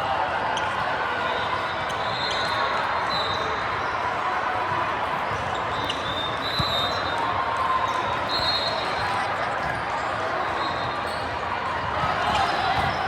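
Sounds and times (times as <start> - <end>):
crowd chatter: 0.0 - 13.0.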